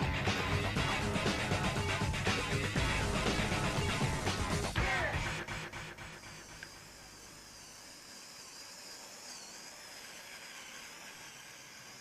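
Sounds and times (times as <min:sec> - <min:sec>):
high whine of electric motors: 0:00.0 - 0:12.0.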